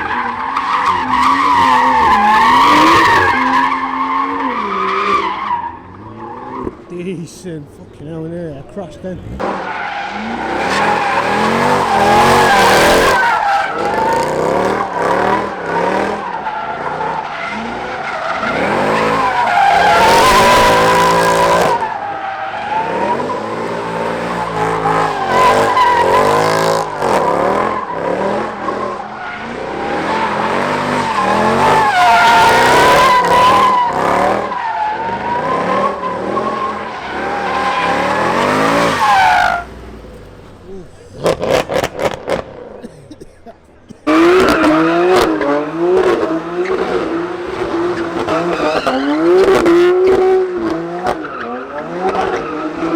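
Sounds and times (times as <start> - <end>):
car engine revving: 0.0 - 43.0, 43.6 - 52.9
car tyres squealing: 0.0 - 52.9.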